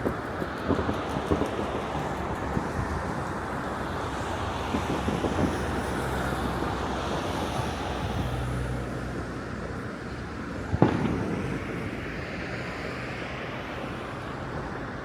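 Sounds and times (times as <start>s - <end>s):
distant fireworks crackling: 0.0s - 8.7s, 9.6s - 15.0s
city traffic rumble: 0.0s - 15.0s.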